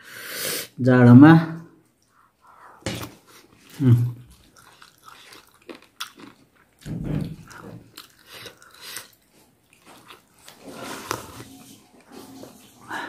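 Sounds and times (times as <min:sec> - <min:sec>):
man chewing food: 0:01.8 - 0:13.0.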